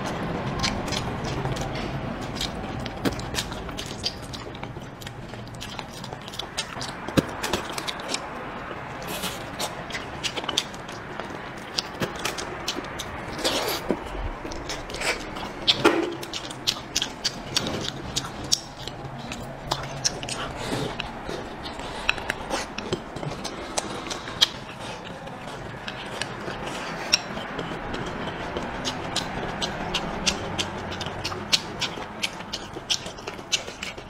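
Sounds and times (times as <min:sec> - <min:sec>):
wet chewing and lip smacking: 0:00.0 - 0:34.0.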